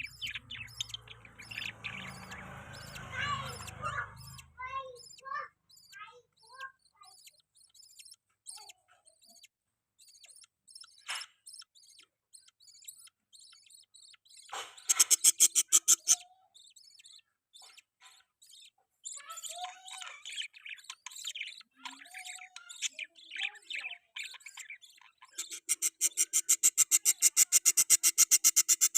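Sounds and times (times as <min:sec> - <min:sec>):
budgerigars chirping and warbling: 0:00.0 - 0:28.9.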